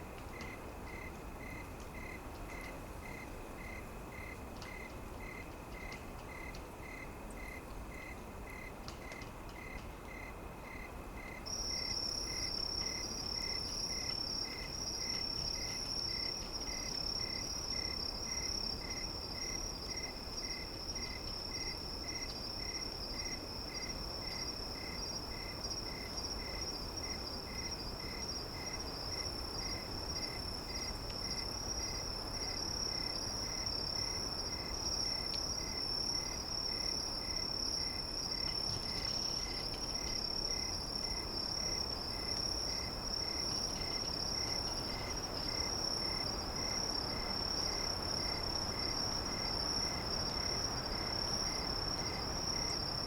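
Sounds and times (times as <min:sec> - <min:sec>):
lower insect chirp: 0:00.0 - 0:53.0
soft background hiss: 0:00.0 - 0:53.0.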